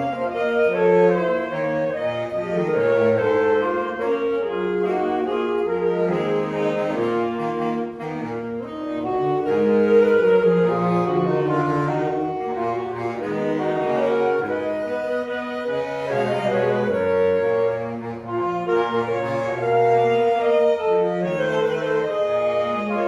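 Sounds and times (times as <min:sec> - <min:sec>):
woodwind ensemble playing: 0:00.0 - 0:23.0.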